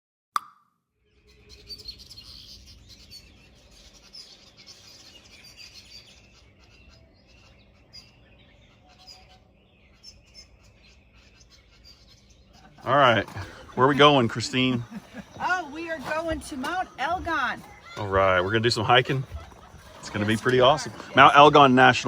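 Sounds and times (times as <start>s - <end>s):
small birds chirping: 1.0s - 22.0s.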